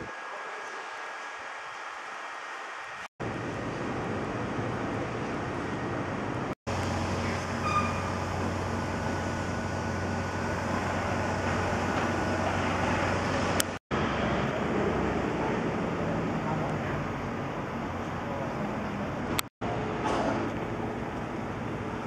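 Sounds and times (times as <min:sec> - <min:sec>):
street traffic: 0:03.2 - 0:22.0.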